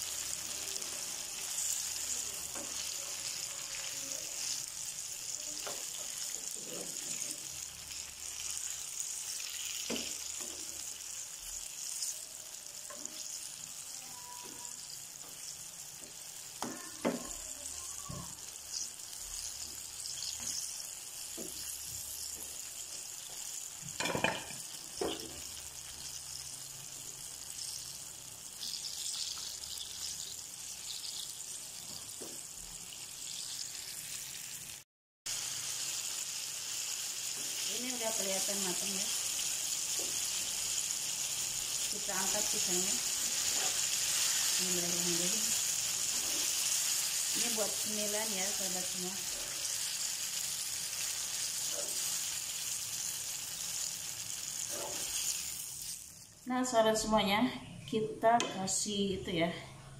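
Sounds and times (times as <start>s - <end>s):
food deep-frying in sizzling oil: 0.0s - 57.1s.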